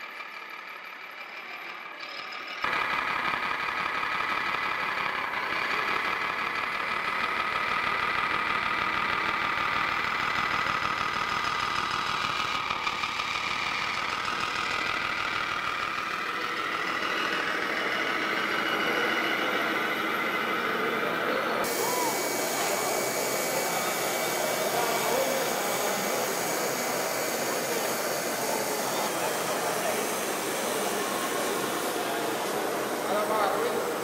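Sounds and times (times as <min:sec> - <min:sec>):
diesel-like engine idling: 0:00.0 - 0:34.0.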